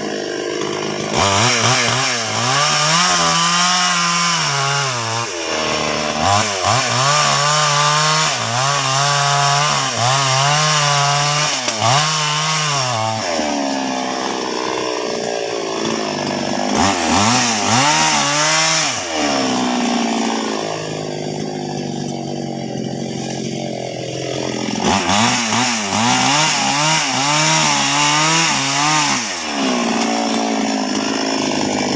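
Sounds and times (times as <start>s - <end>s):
chainsaw cutting wood: 0.0s - 31.9s.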